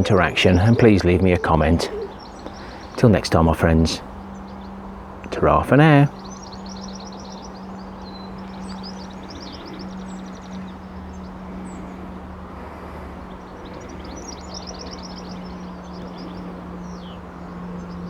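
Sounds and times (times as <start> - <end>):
falling bird chirp: 0.0 - 18.0
rushing background noise: 0.0 - 18.0
small birds twittering: 0.0 - 18.0
steady low hum: 0.0 - 18.0.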